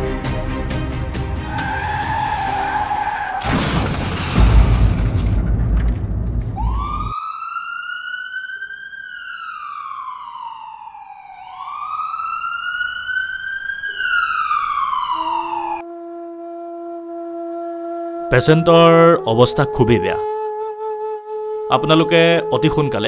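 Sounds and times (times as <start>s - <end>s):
ambulance siren wailing: 1.4s - 3.5s, 6.6s - 23.0s.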